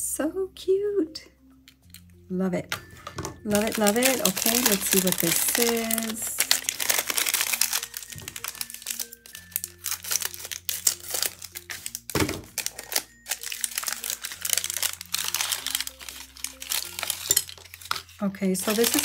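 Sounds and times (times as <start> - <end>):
soft background music: 0.0 - 19.0
foil pouch crinkling: 3.5 - 19.0.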